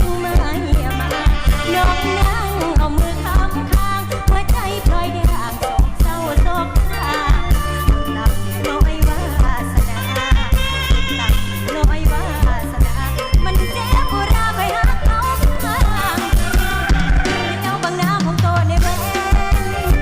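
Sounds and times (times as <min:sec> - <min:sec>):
drum kit beat: 0:00.0 - 0:20.0
person singing: 0:00.0 - 0:20.0.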